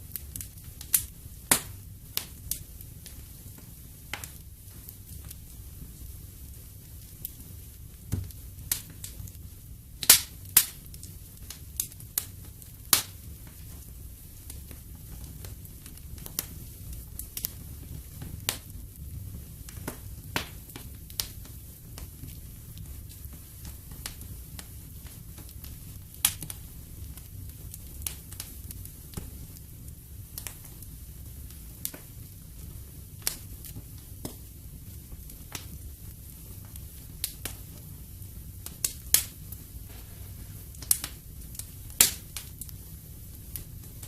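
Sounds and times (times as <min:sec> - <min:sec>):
low rumble of flames: 0:00.0 - 0:44.0
wood fire crackling and popping: 0:00.0 - 0:44.0.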